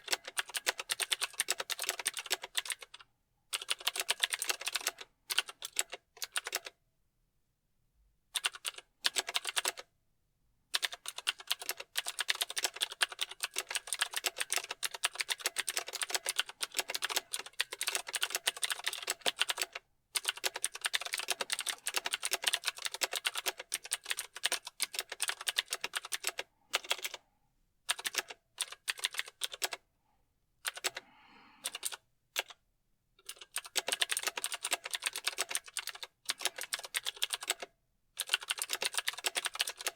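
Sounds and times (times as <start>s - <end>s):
mechanical keyboard typing: 0.0s - 6.8s, 8.4s - 9.8s, 10.8s - 27.2s, 27.9s - 29.8s, 30.6s - 31.0s, 31.6s - 32.6s, 33.2s - 39.9s.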